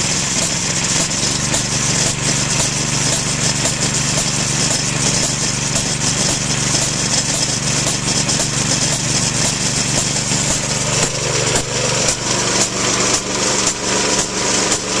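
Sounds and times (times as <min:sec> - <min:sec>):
air compressor pump: 0:00.0 - 0:15.0
small engine running under load: 0:00.0 - 0:15.0.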